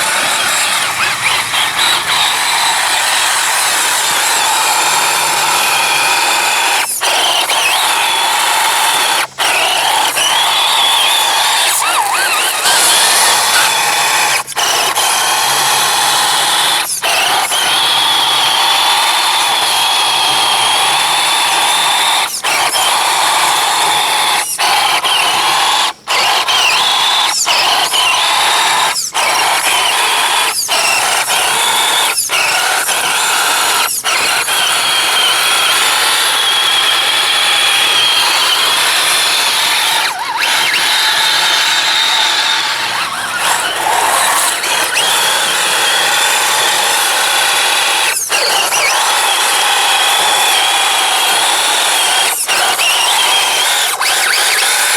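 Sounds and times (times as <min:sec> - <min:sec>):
toy truck electric motor whining: 0:00.0 - 0:54.9.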